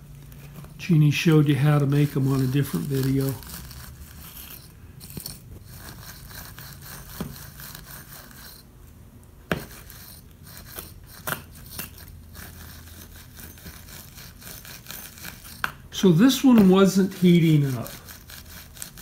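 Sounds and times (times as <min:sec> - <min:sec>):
soldering tip scraping wire cleaner: 0:00.4 - 0:08.7, 0:09.5 - 0:19.0.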